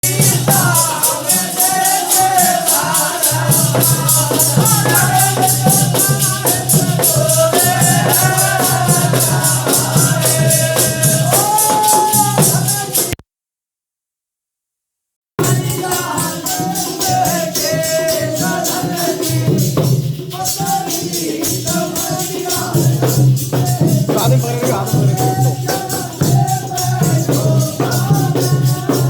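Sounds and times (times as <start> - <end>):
jingling percussion: 0.0 - 13.2, 15.4 - 29.0.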